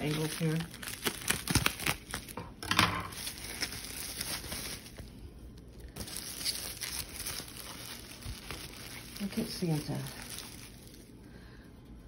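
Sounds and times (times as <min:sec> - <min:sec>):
bubble wrap and netting crinkling: 0:00.0 - 0:11.5.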